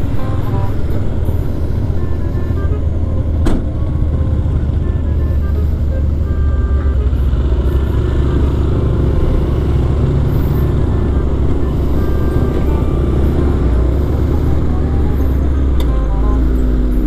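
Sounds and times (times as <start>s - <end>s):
wind rumble: 0.0s - 15.9s
motorcycle engine running: 0.0s - 17.0s.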